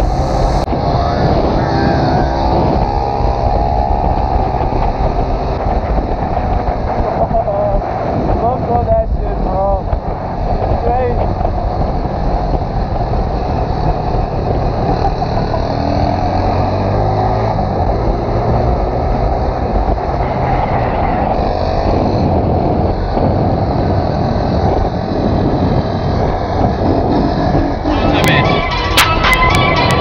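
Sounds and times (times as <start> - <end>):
motorcycle engines accelerating: 0.0 - 30.0
wind rush on microphone: 0.0 - 30.0.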